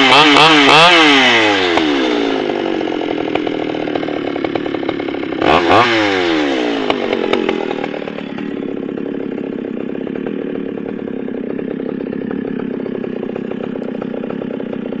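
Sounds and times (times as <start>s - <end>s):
chainsaw idling: 0.0s - 15.0s.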